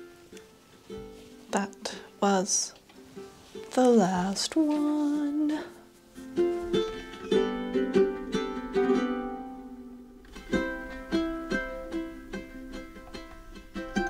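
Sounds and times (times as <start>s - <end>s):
plucked string tune: 0.0s - 14.0s.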